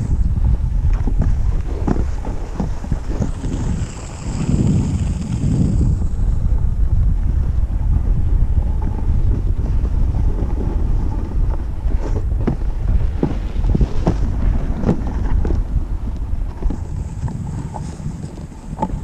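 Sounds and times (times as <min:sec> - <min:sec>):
wind buffeting microphone: 0:00.0 - 0:19.0
skis scraping and clicking: 0:00.8 - 0:06.3, 0:08.8 - 0:19.0.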